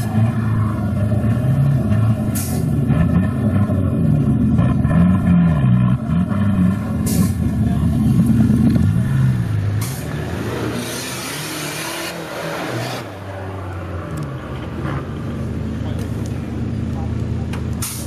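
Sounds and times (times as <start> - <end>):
off-road engine revving: 0.0 - 18.0.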